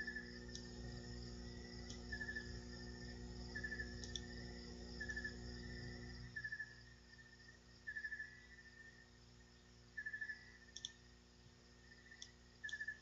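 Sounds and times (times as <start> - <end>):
faint chirping trills: 0.0 - 11.1, 11.8 - 13.0
low steady hum: 0.0 - 13.0.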